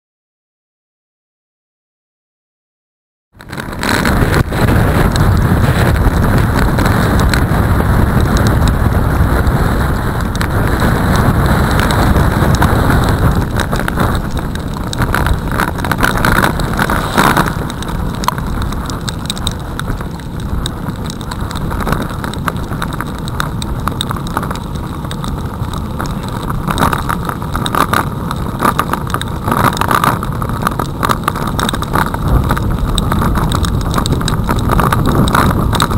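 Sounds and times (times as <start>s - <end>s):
wind noise on microphone: 3.3s - 35.9s
tyres hissing on wet road: 4.0s - 35.5s.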